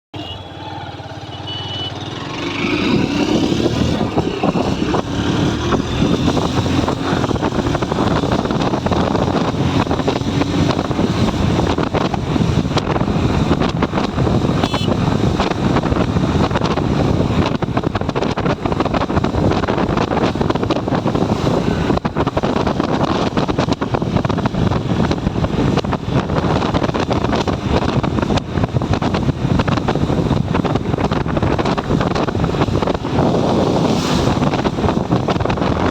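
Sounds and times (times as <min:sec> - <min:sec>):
motorcycle engine running: 0:00.2 - 0:35.9
wind rushing over microphone: 0:02.2 - 0:35.9.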